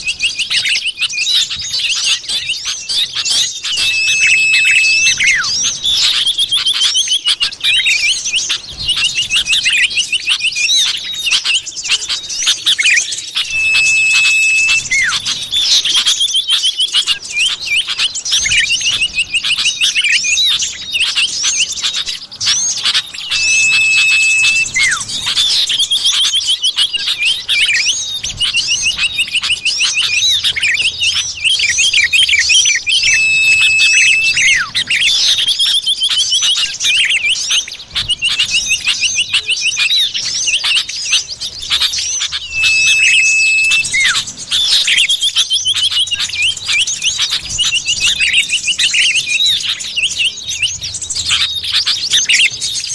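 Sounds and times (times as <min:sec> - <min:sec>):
small birds chirping and trilling: 0:00.0 - 0:52.9
steady bird whistle: 0:00.0 - 0:52.9.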